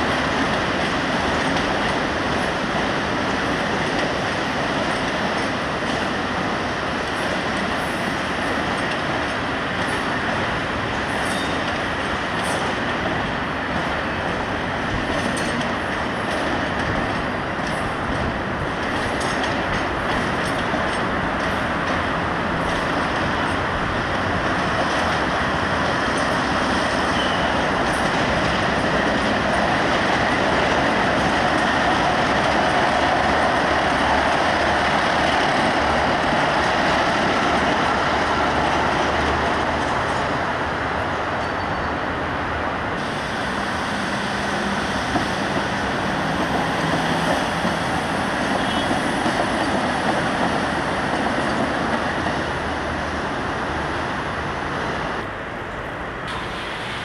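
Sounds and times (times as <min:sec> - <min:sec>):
train running noise: 0:00.0 - 0:57.0.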